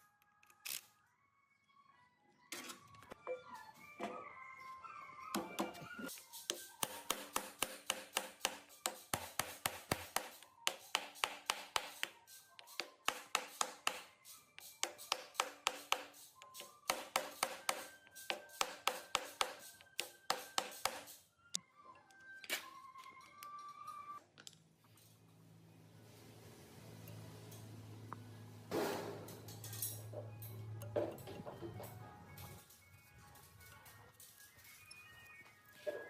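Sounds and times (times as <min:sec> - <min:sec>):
faint background music: 0:00.0 - 0:36.0.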